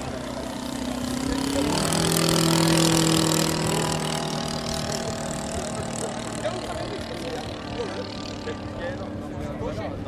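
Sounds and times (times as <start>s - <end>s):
model plane engine passing overhead: 0.0s - 10.0s.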